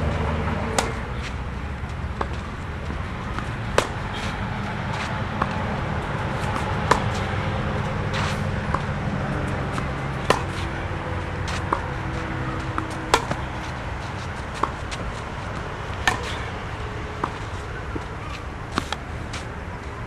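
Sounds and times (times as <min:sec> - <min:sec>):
racket hitting tennis ball: 0:00.4 - 0:19.5
tennis ball bouncing: 0:00.4 - 0:19.5.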